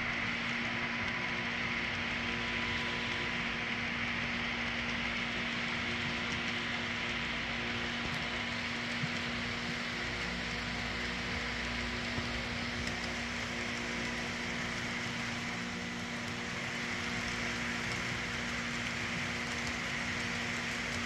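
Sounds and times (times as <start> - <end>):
model train cars rolling: 0.0 - 21.0.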